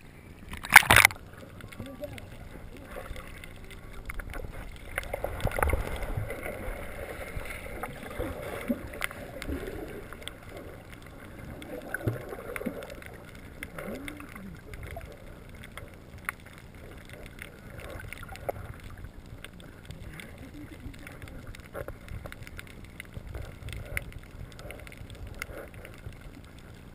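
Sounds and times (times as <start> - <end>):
muffled underwater splashing: 0.0 - 26.9
bubbles gurgling and popping: 0.3 - 15.7, 16.9 - 25.4.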